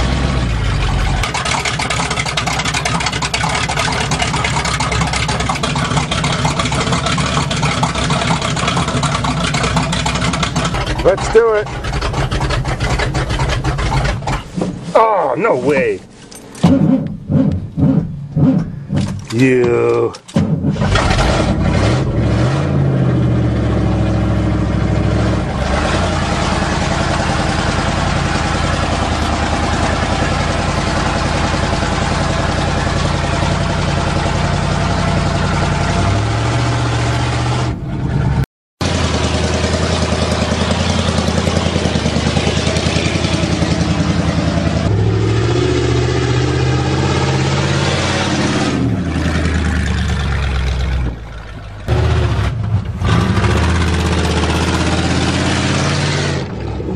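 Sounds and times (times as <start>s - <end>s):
truck engine running: 0.0s - 56.9s.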